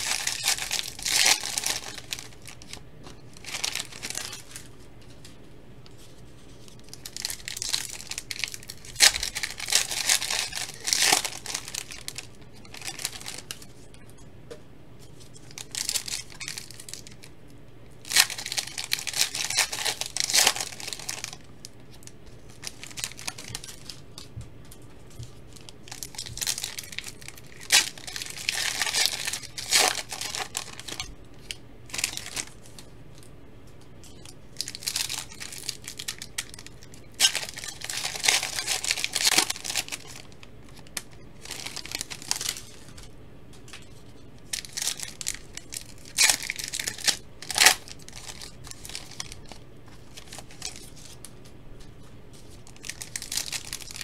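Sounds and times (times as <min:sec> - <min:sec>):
foil wrappers tearing and crinkling: 0:00.0 - 0:04.7, 0:06.6 - 0:14.0, 0:15.3 - 0:17.3, 0:18.0 - 0:24.2, 0:25.2 - 0:32.9, 0:34.0 - 0:43.1, 0:43.7 - 0:51.2, 0:52.4 - 0:54.0.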